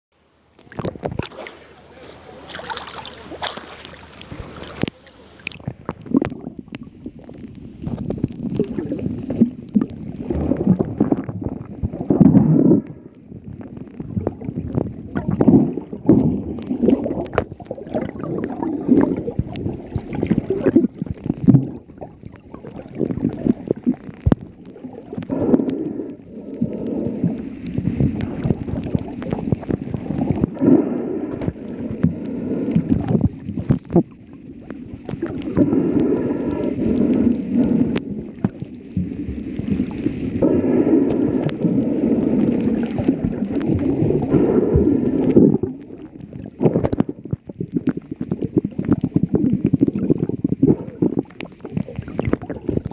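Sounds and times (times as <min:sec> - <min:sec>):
underwater water sloshing: 0:00.2 - 0:52.9.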